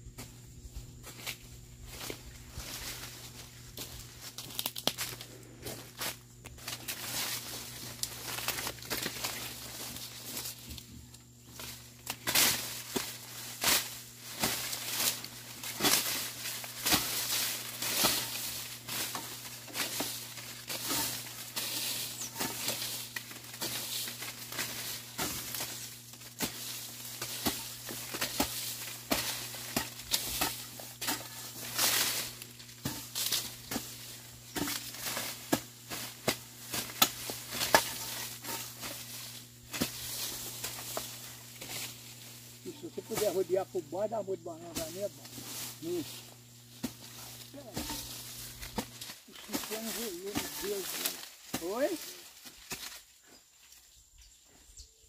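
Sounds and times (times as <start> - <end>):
hoe chopping and scraping soil: 2.0 - 53.3.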